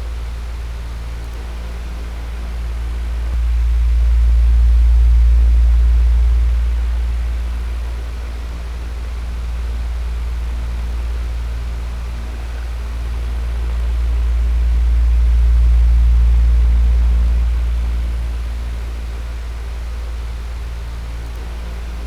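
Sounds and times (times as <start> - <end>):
electric fan air rush: 0.0 - 22.0
low motor hum: 0.0 - 22.0.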